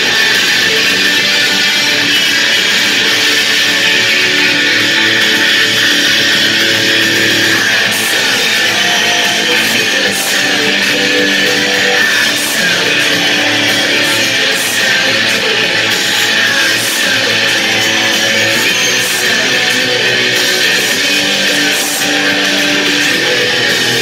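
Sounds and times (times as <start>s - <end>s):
distorted electric guitar strumming: 0.0s - 24.0s.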